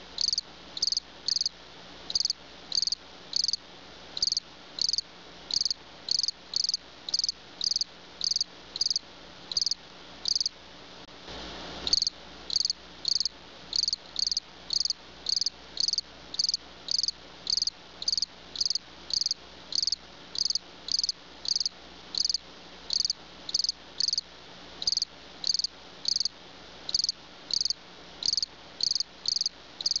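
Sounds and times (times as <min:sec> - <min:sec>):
cricket chirping: 0:00.2 - 0:01.5, 0:02.1 - 0:03.6, 0:04.2 - 0:10.5, 0:11.9 - 0:24.2, 0:24.8 - 0:26.3, 0:26.9 - 0:30.0.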